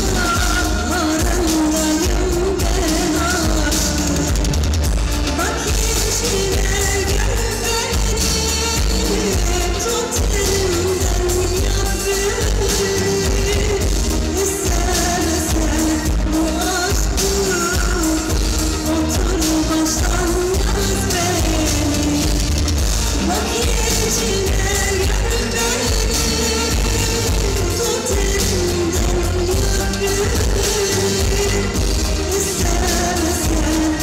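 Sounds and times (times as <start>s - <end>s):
drum kit beat: 0.0s - 34.0s
woman singing into a microphone: 0.0s - 34.0s.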